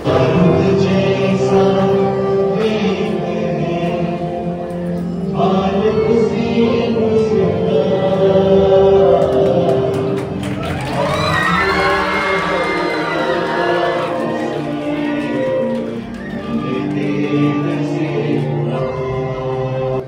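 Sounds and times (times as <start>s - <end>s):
voices singing devotional chant: 0.0s - 20.0s.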